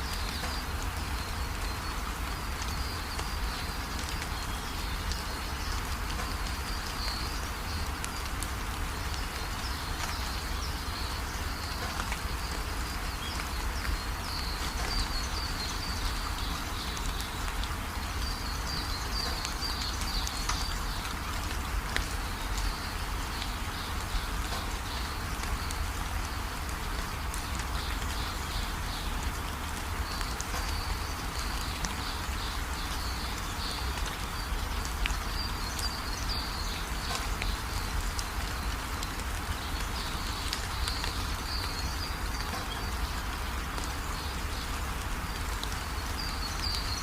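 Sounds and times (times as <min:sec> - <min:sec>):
rain hissing: 0:00.0 - 0:47.0.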